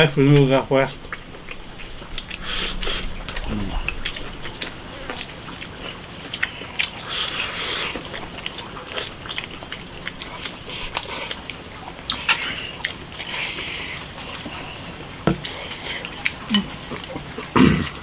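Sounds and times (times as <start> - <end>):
chewing and biting: 0.4 - 18.0.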